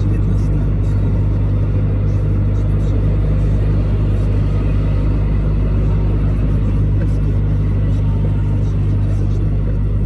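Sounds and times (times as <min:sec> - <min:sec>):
lorry engine drone: 0:00.0 - 0:10.0
road noise: 0:00.0 - 0:10.0.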